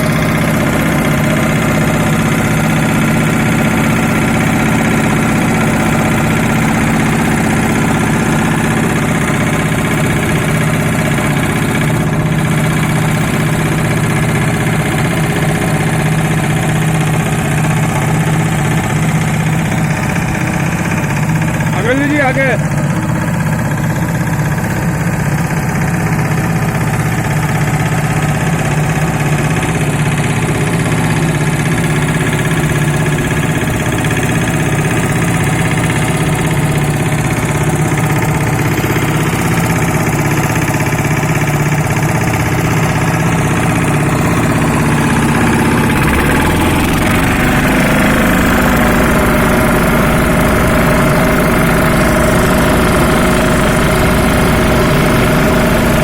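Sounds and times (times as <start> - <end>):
road roller engine running: 0.0 - 56.0.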